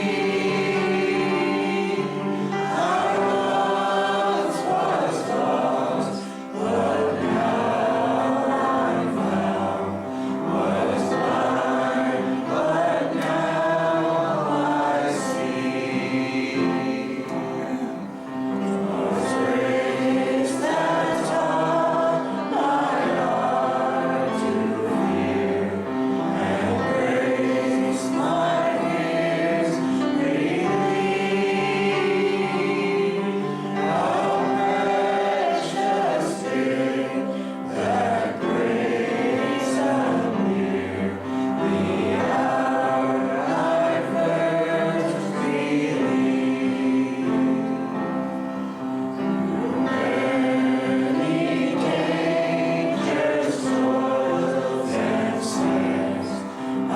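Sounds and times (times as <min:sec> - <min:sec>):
congregation singing a hymn: 0:00.0 - 0:56.9
musical accompaniment: 0:00.0 - 0:56.9.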